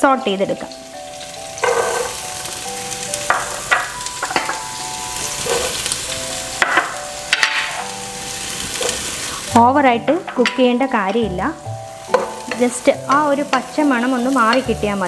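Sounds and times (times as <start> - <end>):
onions sizzling in hot fat: 0.0 - 15.0
vegetables tipped into sizzling pan: 1.2 - 15.0.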